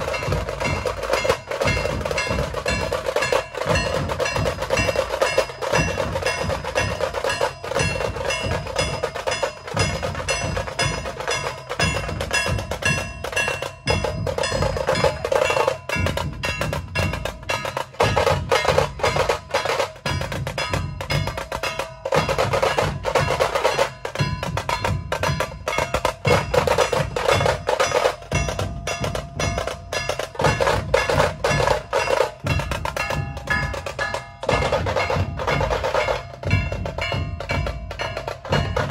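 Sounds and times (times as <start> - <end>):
dhol drums beating: 0.0 - 38.9
sharp tasha drum strokes: 0.0 - 38.9.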